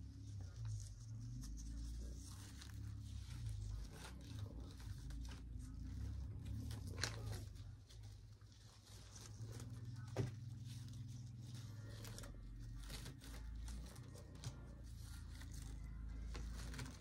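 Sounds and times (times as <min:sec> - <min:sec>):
mesh ribbon crinkling: 0:00.0 - 0:17.0.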